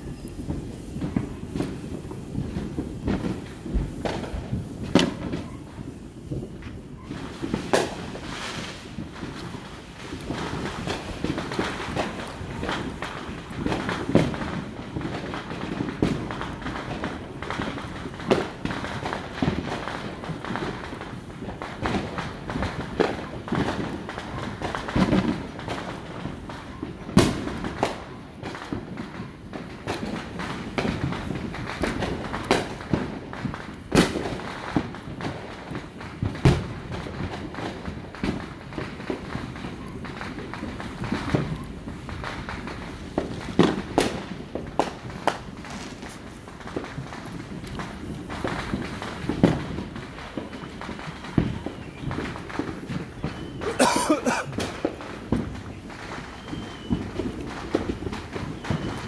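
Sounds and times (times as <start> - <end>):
distant fireworks banging: 0.0 - 59.0.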